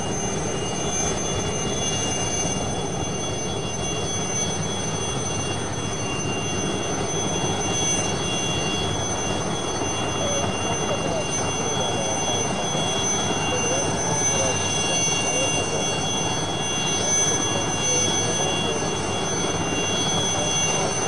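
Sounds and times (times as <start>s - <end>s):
helicopter engine and rotor rush: 0.0s - 21.0s
high turbine whine: 0.0s - 21.0s.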